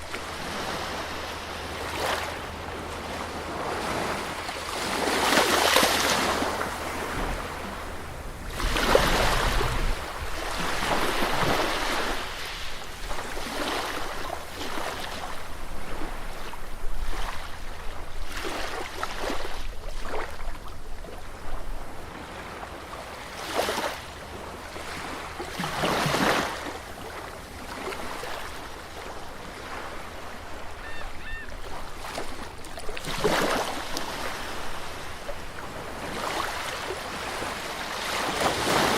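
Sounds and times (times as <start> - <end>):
sea waves breaking on a beach: 0.0 - 38.9.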